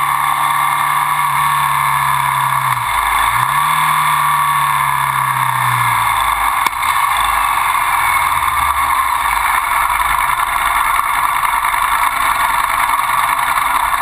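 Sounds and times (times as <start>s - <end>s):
motorcycle engine idling: 0.0s - 14.0s
steady rushing noise: 0.0s - 14.0s.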